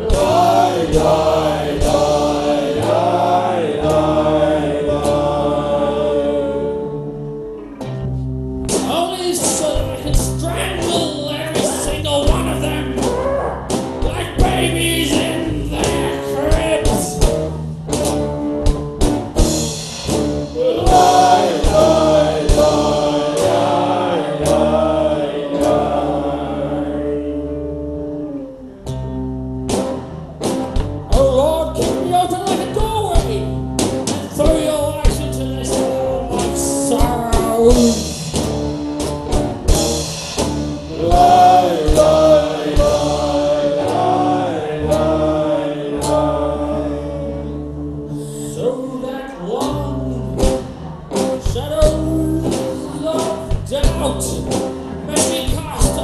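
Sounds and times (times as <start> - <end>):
drum kit: 0.0 - 6.4, 8.6 - 26.8, 29.6 - 47.2, 49.6 - 56.0
voices singing: 0.0 - 7.4, 8.9 - 17.5, 20.4 - 28.4, 31.1 - 38.5, 40.7 - 56.0
acoustic and electric guitars: 0.0 - 56.0.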